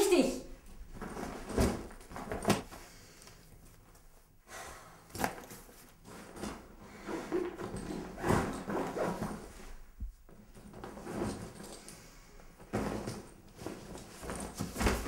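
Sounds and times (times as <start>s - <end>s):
rustling and shuffling: 0.6s - 4.4s, 5.2s - 15.0s.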